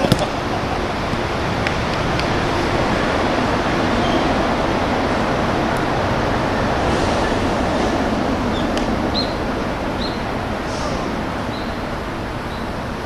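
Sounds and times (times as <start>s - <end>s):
rushing background noise: 0.0s - 13.0s.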